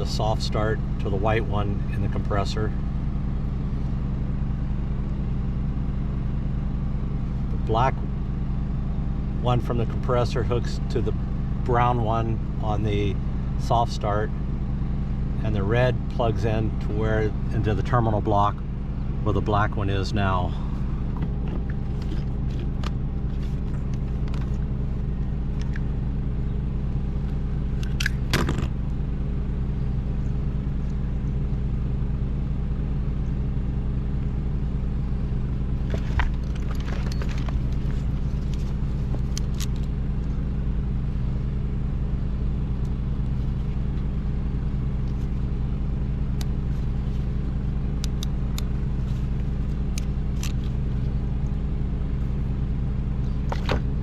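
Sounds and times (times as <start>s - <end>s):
low engine-like drone: 0.0s - 54.0s.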